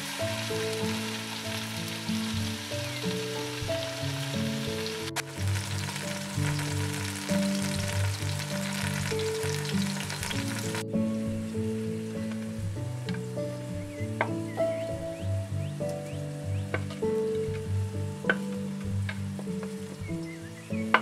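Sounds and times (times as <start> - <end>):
background music melody: 0.0 - 21.0
vegetables sizzling in oil: 0.0 - 21.0.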